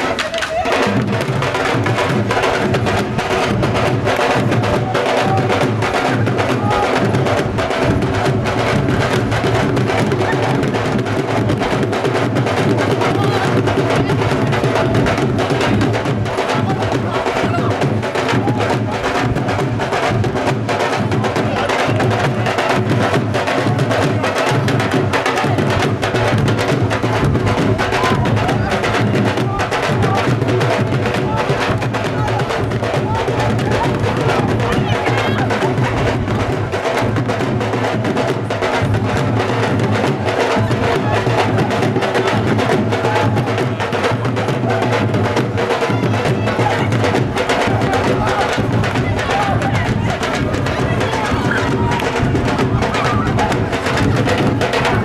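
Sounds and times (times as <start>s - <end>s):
fast dhol drumming: 0.0s - 55.0s.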